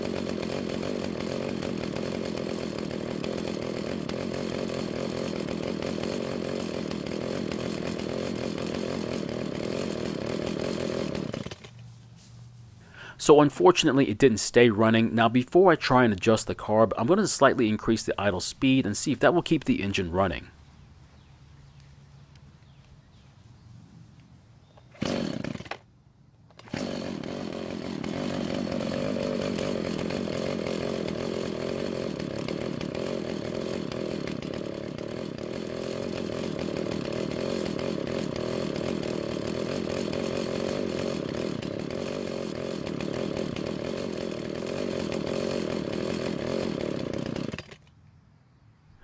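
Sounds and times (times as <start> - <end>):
chainsaw engine idling: 0.0 - 12.0, 12.6 - 22.8, 24.8 - 25.9, 26.5 - 48.0.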